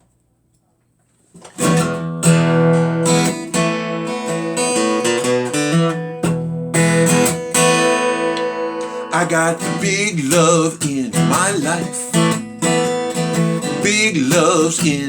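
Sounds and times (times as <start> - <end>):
strummed acoustic guitar chords: 1.4 - 15.0.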